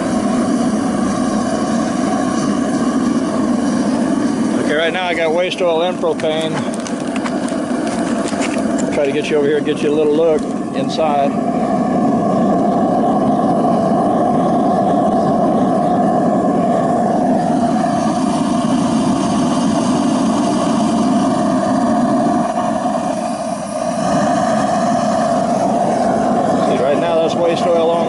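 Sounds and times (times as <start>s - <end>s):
burner flame rushing: 0.0s - 28.0s
low hum: 0.0s - 28.0s.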